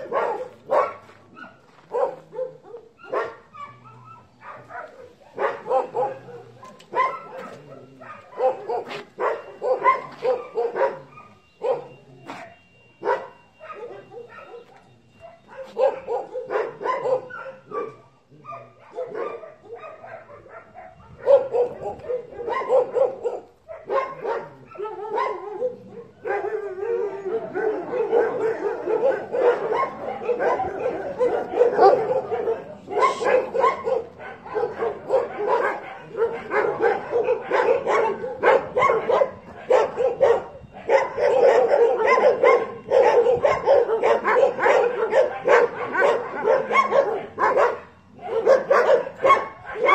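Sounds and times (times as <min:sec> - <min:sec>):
dogs barking and yipping: 0:00.0 - 0:49.9.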